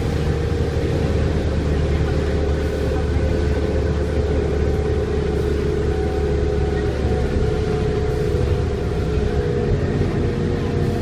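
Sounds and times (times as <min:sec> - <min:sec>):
bus engine low rumble: 0:00.0 - 0:11.0
drivetrain whine: 0:00.0 - 0:11.0.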